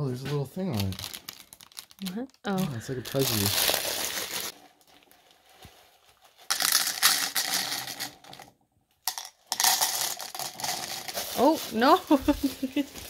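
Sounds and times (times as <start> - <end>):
plastic bag crinkling: 0.7 - 8.0, 9.6 - 13.0.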